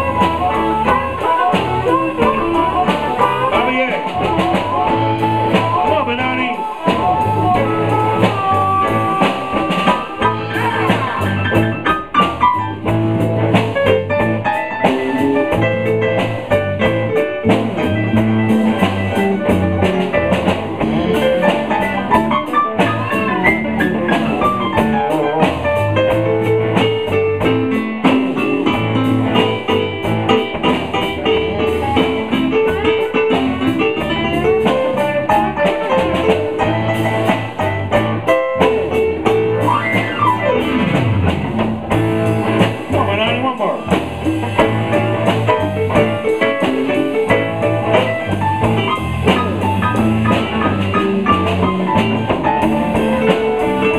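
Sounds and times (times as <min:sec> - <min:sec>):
blues band playing: 0:00.0 - 0:53.9
drum kit: 0:00.0 - 0:53.9
guitar: 0:00.0 - 0:53.9.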